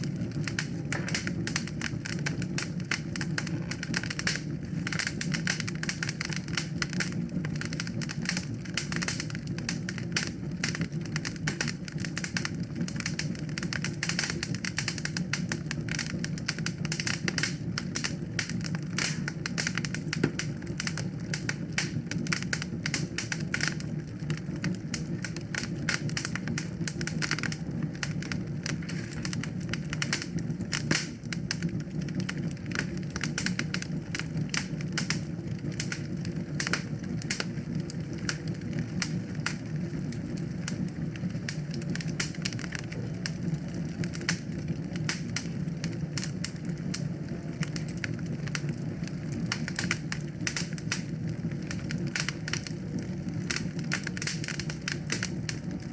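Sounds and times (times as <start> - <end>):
low rush of flame: 0.0 - 55.9
wood fire crackling and popping: 0.0 - 55.9.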